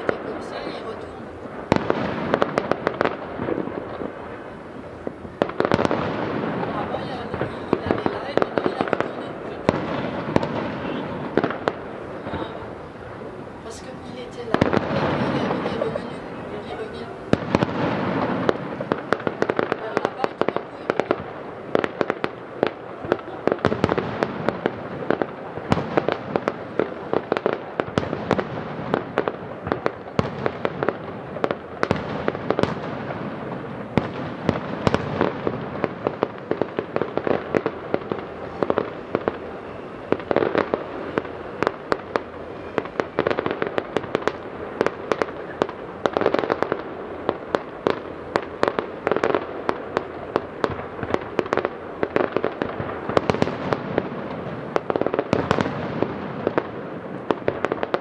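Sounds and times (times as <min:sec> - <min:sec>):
distant fireworks bursts: 0:00.0 - 0:58.0.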